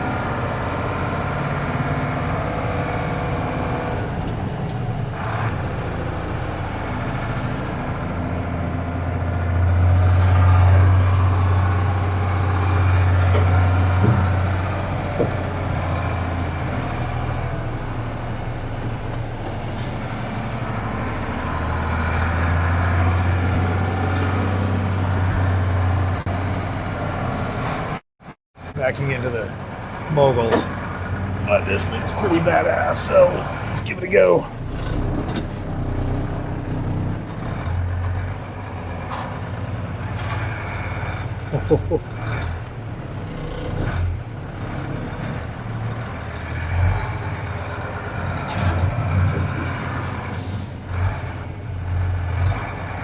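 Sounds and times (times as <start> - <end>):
truck diesel engine droning: 0.0 - 53.0.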